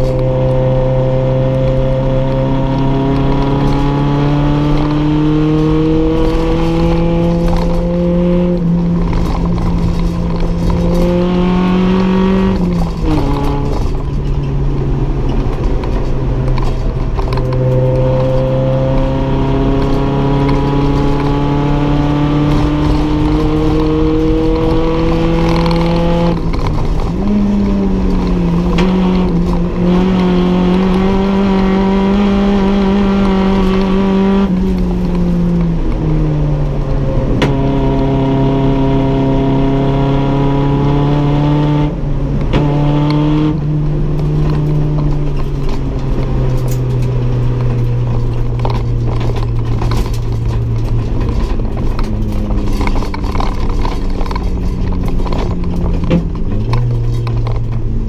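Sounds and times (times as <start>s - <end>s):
car engine revving under load: 0.0s - 58.0s.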